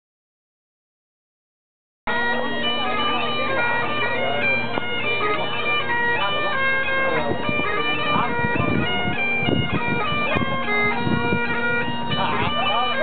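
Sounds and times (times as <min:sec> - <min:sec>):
bagpipes playing: 0:02.1 - 0:13.0.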